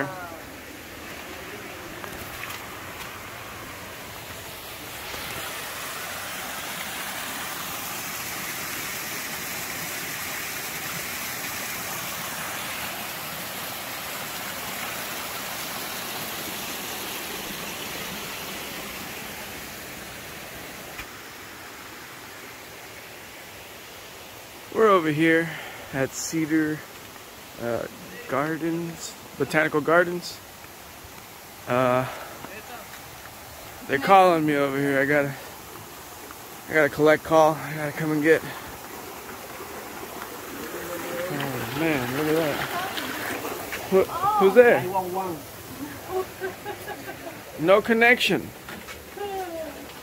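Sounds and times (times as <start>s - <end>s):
waterfall splashing into pond: 0.0s - 50.0s.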